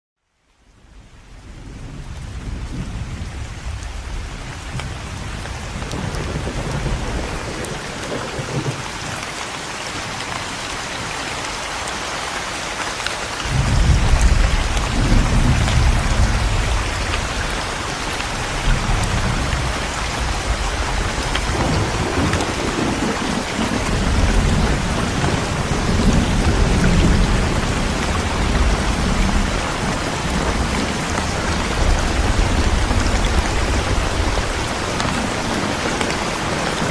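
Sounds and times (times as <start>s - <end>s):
heavy rain falling: 0.4s - 36.9s
thunder rumbling: 1.0s - 9.3s, 13.4s - 36.9s.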